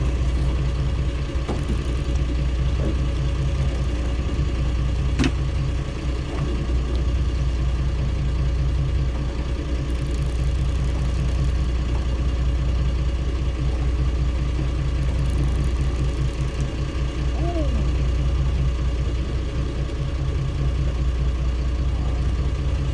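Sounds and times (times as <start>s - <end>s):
boat engine droning: 0.0s - 22.9s.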